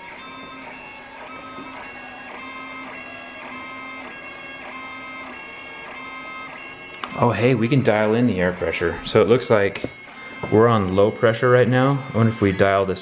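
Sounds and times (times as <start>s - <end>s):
motors whining shifting pitch: 0.0s - 13.0s.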